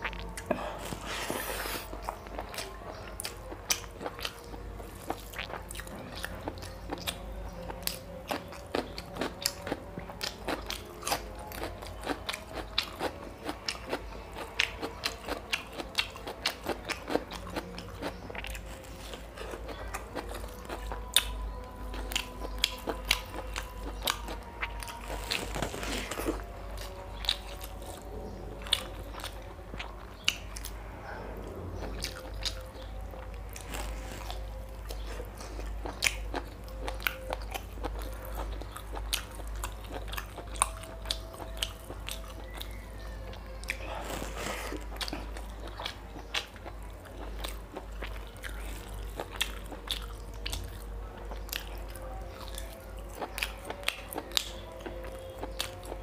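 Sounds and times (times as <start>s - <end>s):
man chewing with wet smacking: 0.0s - 30.8s, 31.4s - 56.0s.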